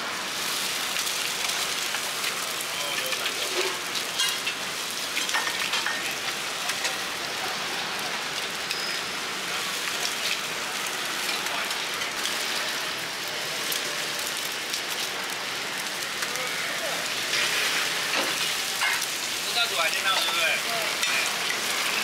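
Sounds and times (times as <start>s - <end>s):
eggs sizzling in hot oil: 0.0s - 22.0s
sharp crackles: 0.6s - 22.0s.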